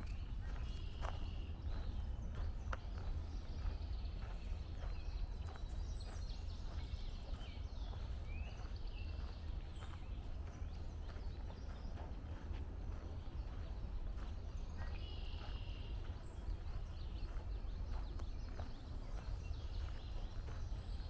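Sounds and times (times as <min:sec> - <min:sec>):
footsteps on a trail: 0:00.0 - 0:21.0.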